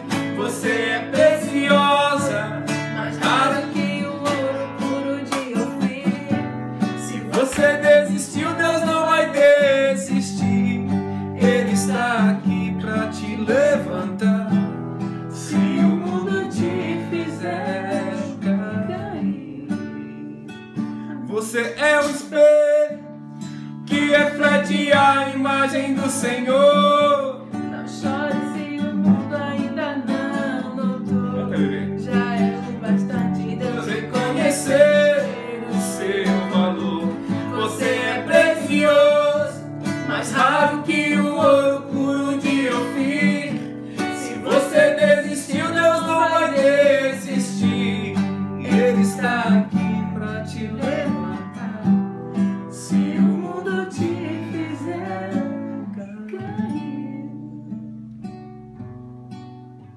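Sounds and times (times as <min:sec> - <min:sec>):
person singing: 0:00.0 - 0:14.5, 0:15.3 - 0:23.0, 0:23.8 - 0:58.2
acoustic guitar strummed and picked: 0:00.0 - 0:59.9.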